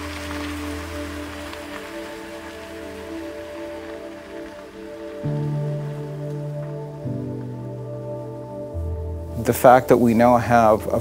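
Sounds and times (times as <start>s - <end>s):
soft music of held chords: 0.0s - 11.0s.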